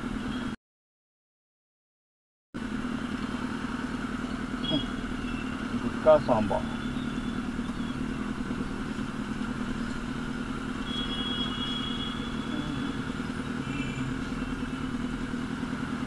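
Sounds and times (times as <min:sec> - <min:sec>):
motorcycle engine idling: 0:02.6 - 0:16.0.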